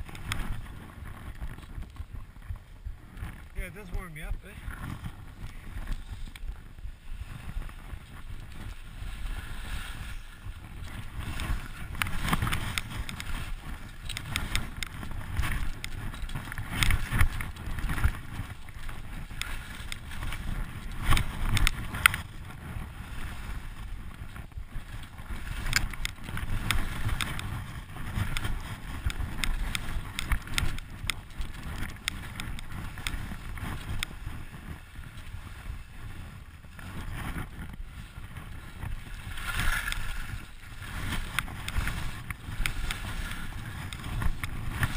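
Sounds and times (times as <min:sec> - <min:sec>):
skis and pole scraping snow: 0:00.0 - 0:44.9
wind rumbling on microphone: 0:00.0 - 0:44.9.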